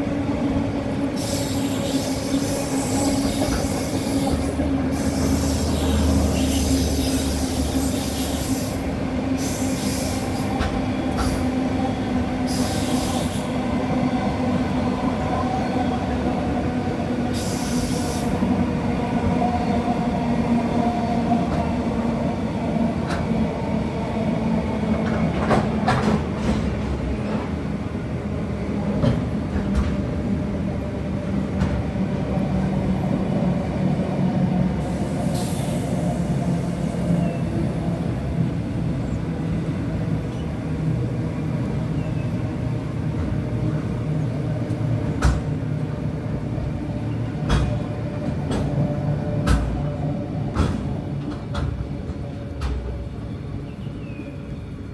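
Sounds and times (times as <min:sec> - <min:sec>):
freight train rolling past: 0:00.0 - 0:54.9.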